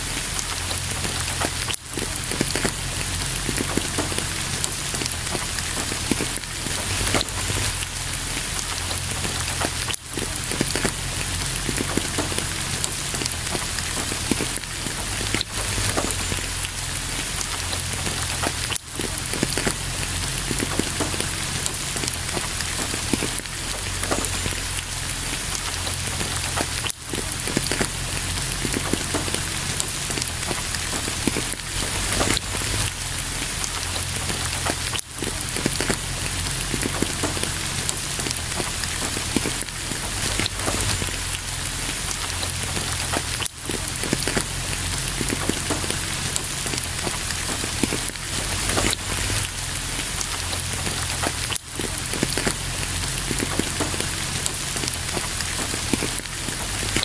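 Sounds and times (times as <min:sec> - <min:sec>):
raindrop hits: 0:00.0 - 0:57.0
steady rain: 0:00.0 - 0:57.0.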